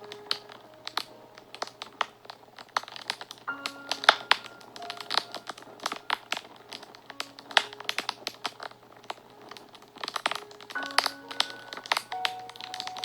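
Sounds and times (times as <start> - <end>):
soft sustained music notes: 0.0 - 13.0
wood fire crackling and popping: 0.0 - 13.0.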